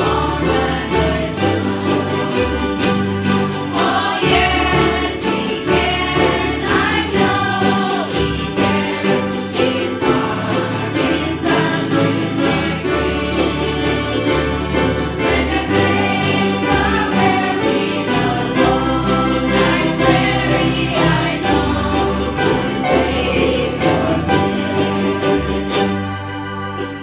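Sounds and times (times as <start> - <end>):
acoustic guitar strumming: 0.0 - 27.0
group singing a hymn: 0.0 - 27.0
ukuleles: 0.0 - 27.0.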